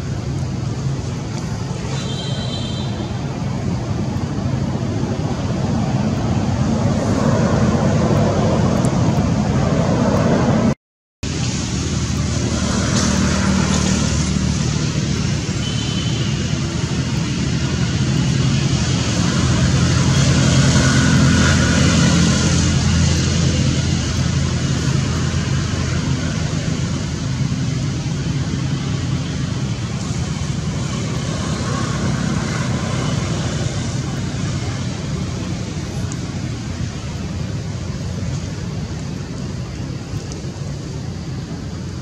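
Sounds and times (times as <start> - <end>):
road traffic rumble: 0.0 - 42.0.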